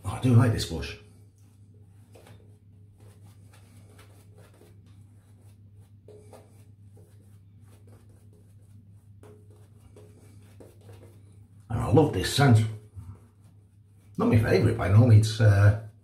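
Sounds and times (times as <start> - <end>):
shaving brush swishing: 1.5 - 15.6.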